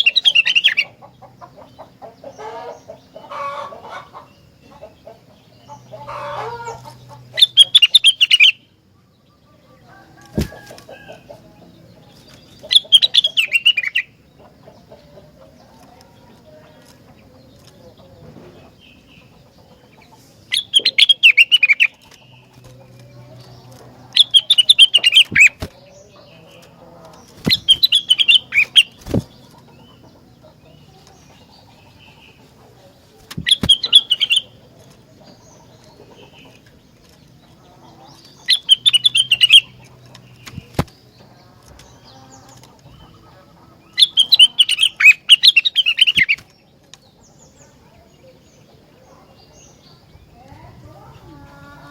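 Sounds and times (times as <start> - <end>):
songbird chattering song: 0.0 - 51.9.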